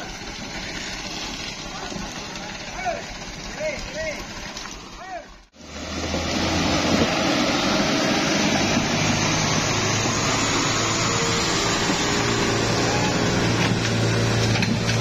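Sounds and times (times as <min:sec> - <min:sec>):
diesel engine under load: 0:00.0 - 0:15.0
wheels churning through mud: 0:00.0 - 0:15.0.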